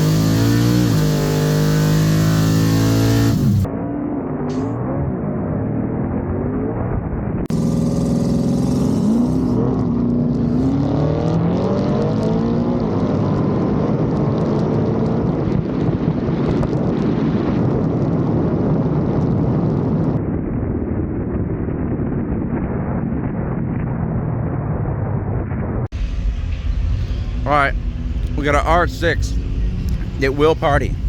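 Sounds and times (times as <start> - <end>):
vehicle engine accelerating: 0.0 - 20.3, 21.8 - 31.0.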